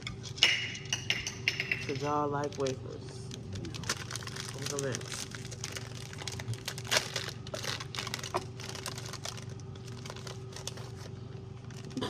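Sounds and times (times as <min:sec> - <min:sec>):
plastic wrapper crinkling: 0:01.9 - 0:12.0.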